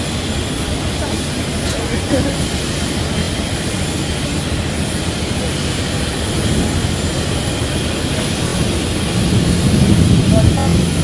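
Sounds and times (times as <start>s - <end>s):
jet engines droning: 0.0s - 11.0s.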